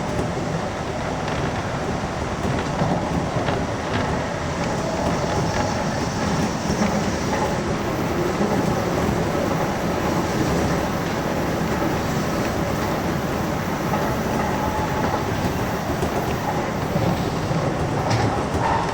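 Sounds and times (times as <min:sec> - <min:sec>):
train rumble: 0:00.0 - 0:18.9
wheels clicking over rail joints: 0:00.0 - 0:18.9.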